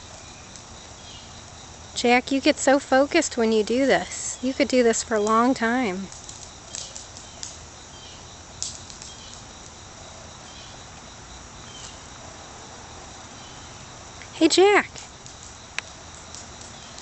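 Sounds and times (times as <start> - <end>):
high background hiss: 0.0 - 17.0.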